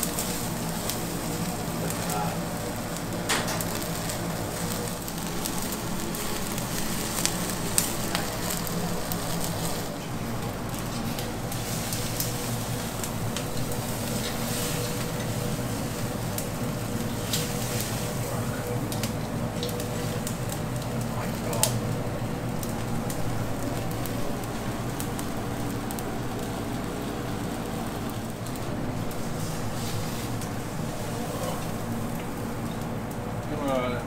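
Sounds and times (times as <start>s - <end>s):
steak sizzling in a pan: 0.0s - 10.0s, 10.6s - 18.3s, 22.5s - 32.7s.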